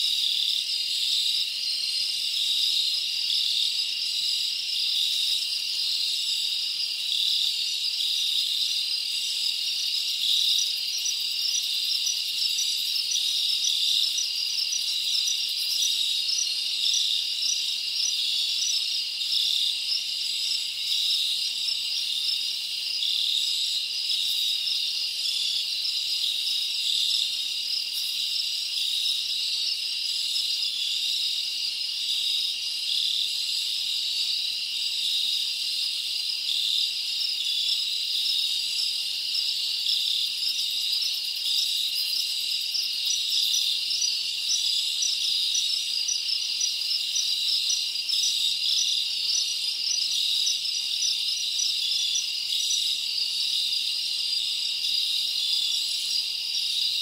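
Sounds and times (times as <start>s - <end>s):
insect chorus trilling: 0.0s - 57.0s.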